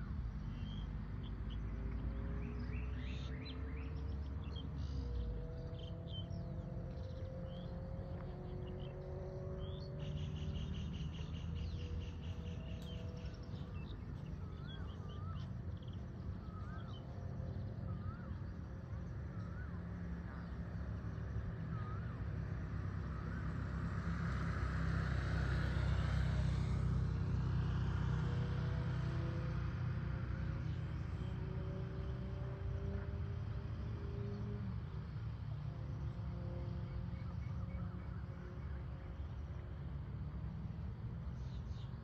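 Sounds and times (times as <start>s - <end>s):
low vehicle rumble: 0.0s - 42.0s
vehicle passing: 0.0s - 42.0s.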